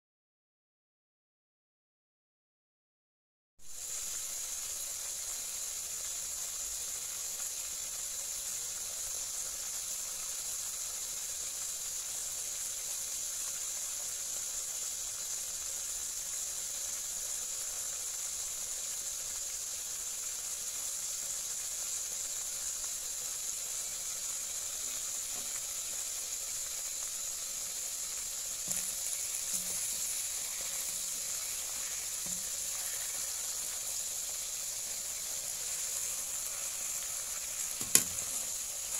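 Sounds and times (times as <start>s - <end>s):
fish sizzling in hot oil: 3.6s - 38.9s.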